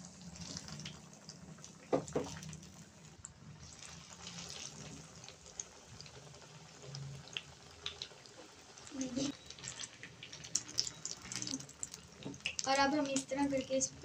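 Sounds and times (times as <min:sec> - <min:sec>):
patties sizzling in hot oil: 0:00.0 - 0:14.0.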